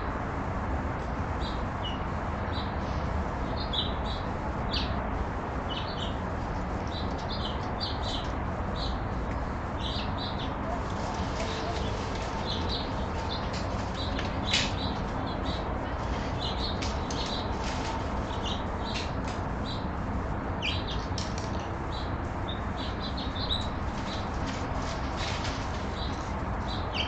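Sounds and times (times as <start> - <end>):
birds chirping: 3.4 - 27.0.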